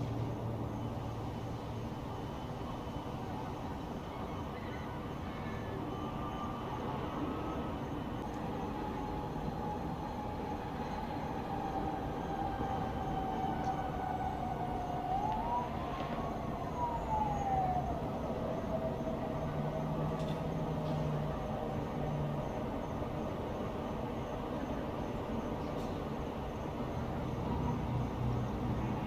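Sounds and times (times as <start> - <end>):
town traffic rumble: 0.0 - 29.0
distant siren: 0.1 - 29.0.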